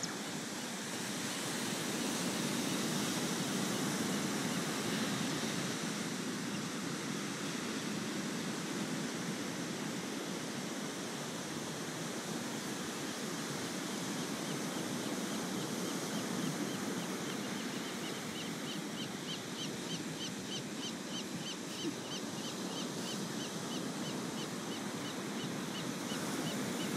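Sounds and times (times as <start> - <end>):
ocean surf on sand: 0.0 - 26.9.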